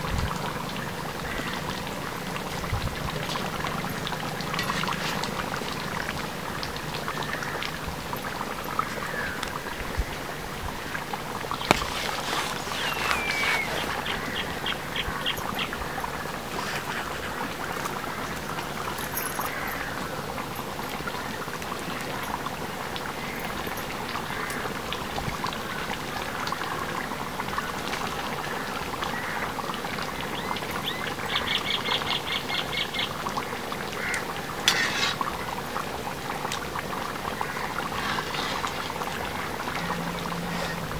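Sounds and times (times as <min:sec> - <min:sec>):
curry bubbling and simmering: 0:00.0 - 0:40.9.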